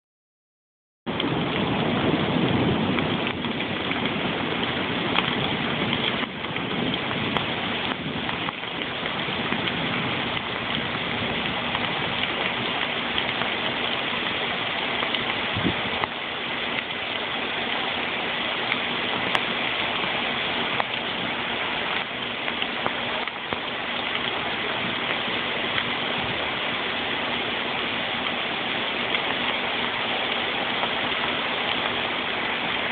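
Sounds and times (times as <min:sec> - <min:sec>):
heavy rain on wet pavement: 0:01.1 - 0:32.9.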